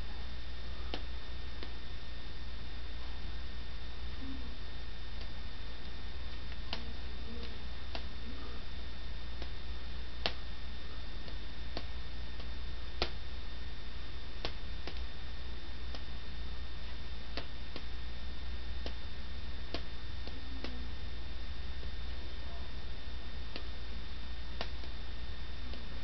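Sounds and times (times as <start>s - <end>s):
steady hum and hiss: 0.0s - 26.0s.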